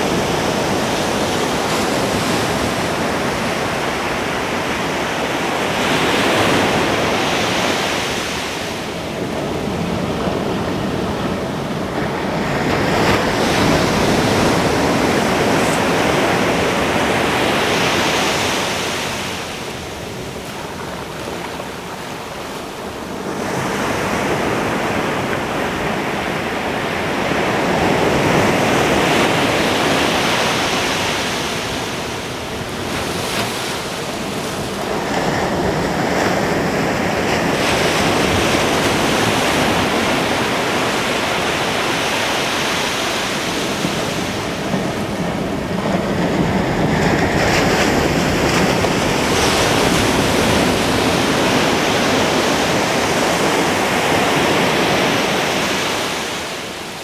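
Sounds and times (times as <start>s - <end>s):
ocean surf breaking: 0.0s - 57.0s
wind on microphone: 0.0s - 57.0s.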